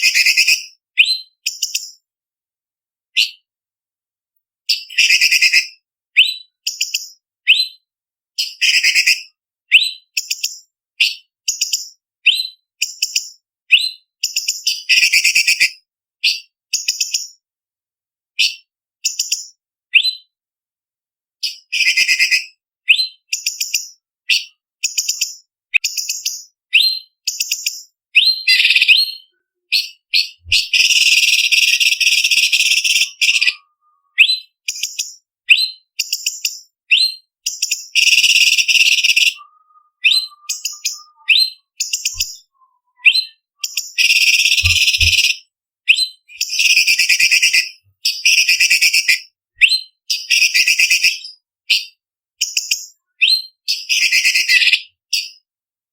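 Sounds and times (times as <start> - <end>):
bird singing whistled notes: 0.0 - 2.0, 4.7 - 7.8, 8.4 - 17.4, 18.4 - 20.4, 21.4 - 55.4.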